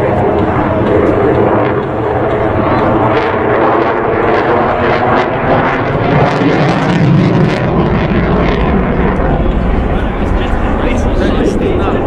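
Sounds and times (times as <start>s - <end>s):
aircraft engine in flight: 0.0s - 12.0s.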